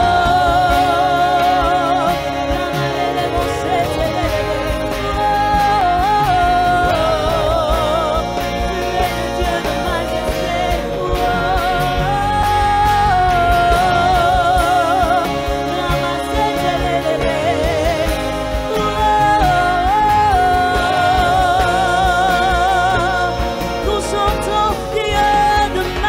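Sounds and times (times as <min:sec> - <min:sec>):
instrumental accompaniment: 0:00.0 - 0:26.0
woman singing gospel song: 0:00.0 - 0:26.0.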